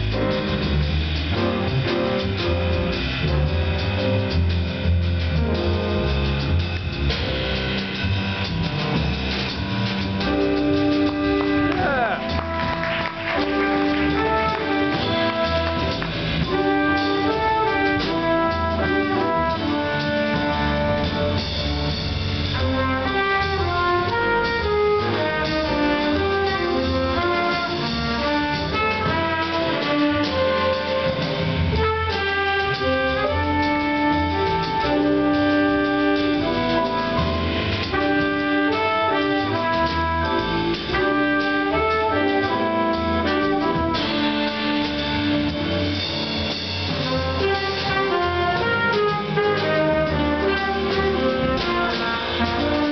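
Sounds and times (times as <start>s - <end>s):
jazz combo playing: 0.0s - 52.9s.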